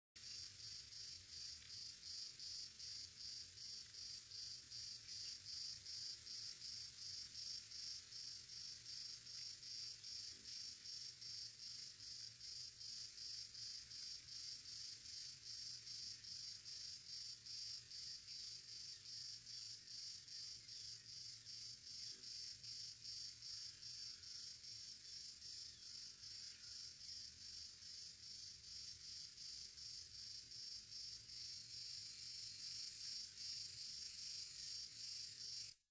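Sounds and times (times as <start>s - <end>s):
insect chorus buzzing: 0.2s - 35.8s.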